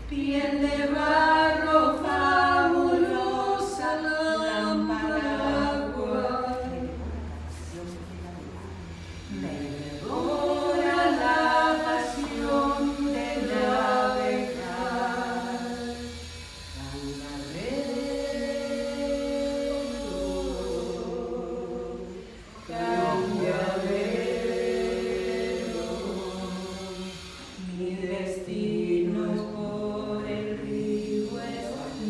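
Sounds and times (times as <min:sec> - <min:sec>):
woman singing unaccompanied: 0:00.0 - 0:07.3, 0:09.3 - 0:16.1, 0:16.8 - 0:32.0.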